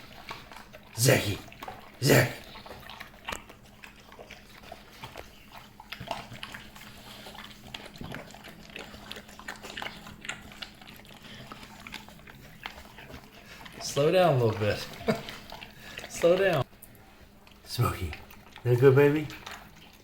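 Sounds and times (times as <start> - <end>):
dog chewing kibble: 0.0 - 20.0.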